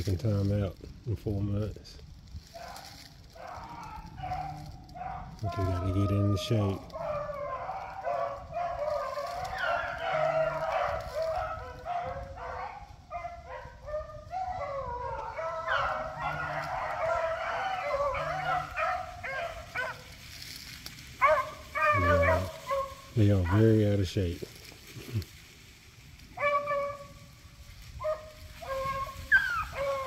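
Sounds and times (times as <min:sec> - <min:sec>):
pack of dogs baying: 0:02.5 - 0:24.2, 0:26.3 - 0:30.0.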